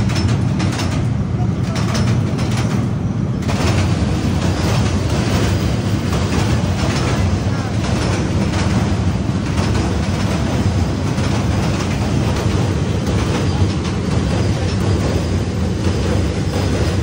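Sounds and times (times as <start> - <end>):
freight train rumbling on bridge: 0.0 - 17.0
wheels clacking over rails: 0.0 - 17.0.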